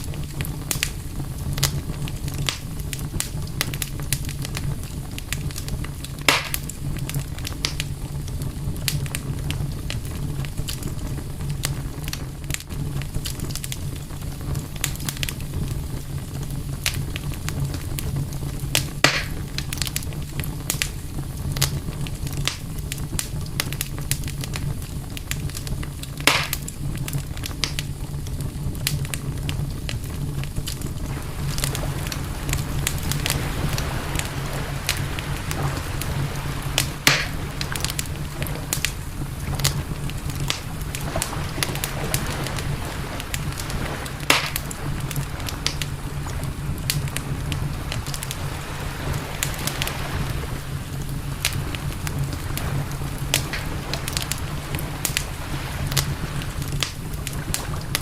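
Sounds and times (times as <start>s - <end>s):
campfire crackling: 0.0s - 58.0s
fire pops: 0.0s - 58.0s
low rumble: 0.0s - 58.0s.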